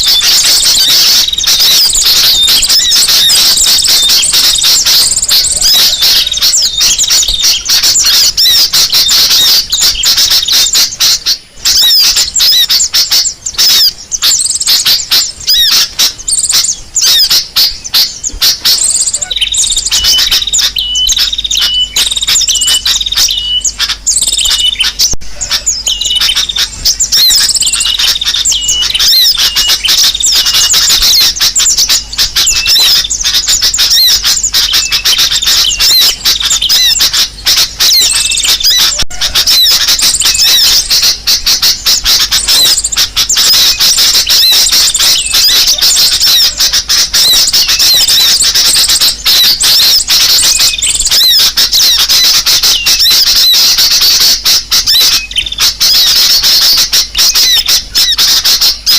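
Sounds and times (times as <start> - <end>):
high-pitched bird chirping: 0.0 - 58.9.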